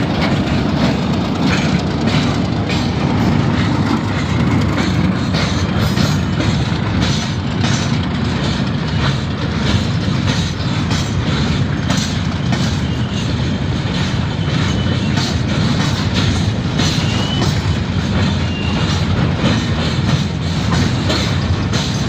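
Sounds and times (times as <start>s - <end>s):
train wheels rumbling on rails: 0.0s - 22.0s
wheels clacking over rail joints: 0.0s - 22.0s.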